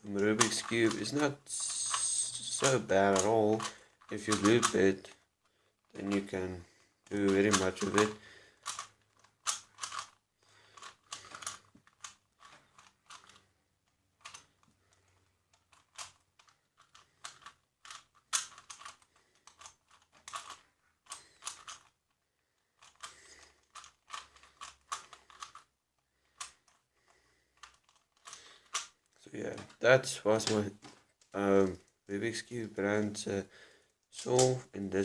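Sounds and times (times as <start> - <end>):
puzzle cube plastic clicks: 0.0 - 34.8.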